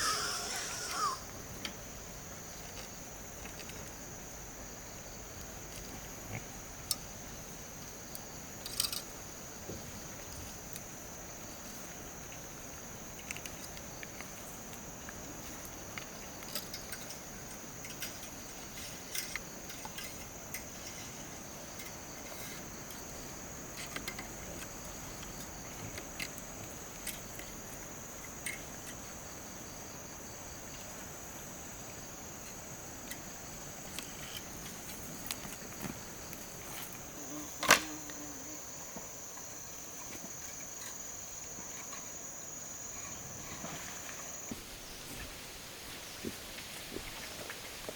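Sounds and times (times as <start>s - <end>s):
insects droning: 0.0s - 47.9s.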